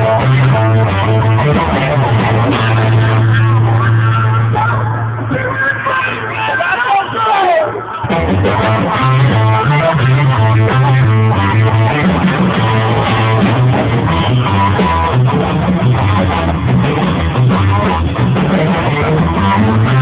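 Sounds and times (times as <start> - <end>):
bass guitar riff: 0.0 - 6.6, 7.8 - 20.0
electric guitar riff: 0.0 - 6.7, 7.8 - 20.0
live rock band playing: 0.0 - 6.7, 8.0 - 20.0.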